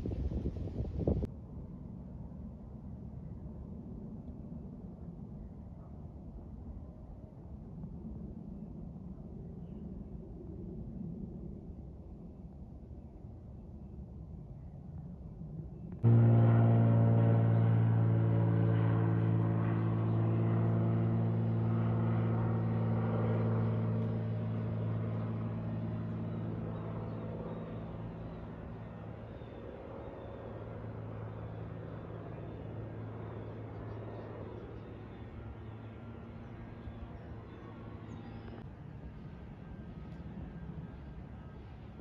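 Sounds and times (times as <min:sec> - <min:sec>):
propeller airplane drone: 0:00.0 - 0:42.0.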